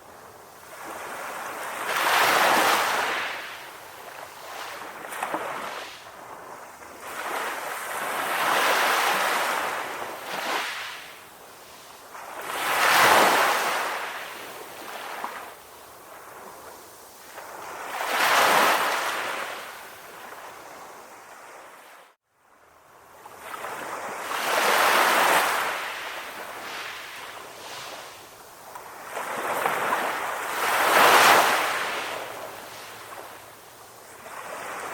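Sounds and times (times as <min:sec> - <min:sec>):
sea waves breaking on shore: 0:00.0 - 0:22.2, 0:23.2 - 0:34.9.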